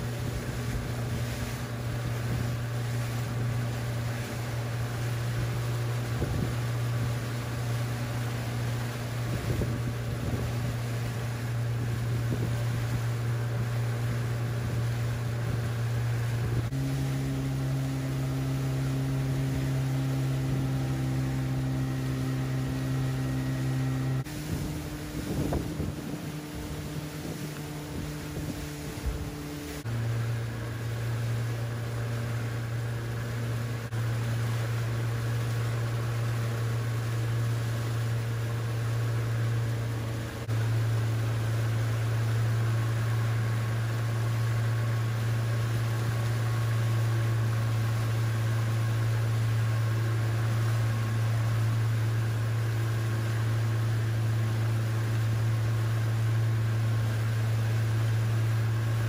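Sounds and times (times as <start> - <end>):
motorboat engine drone: 0.0 - 59.0
water and wind hiss: 0.0 - 59.0.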